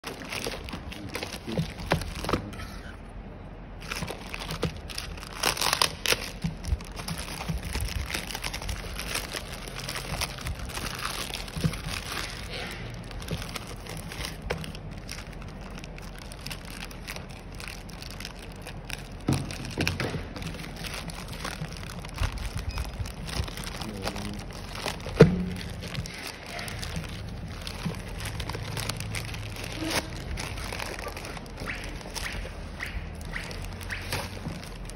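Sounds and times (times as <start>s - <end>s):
plastic mailer bag crinkling: 0.0s - 2.5s, 3.8s - 34.9s.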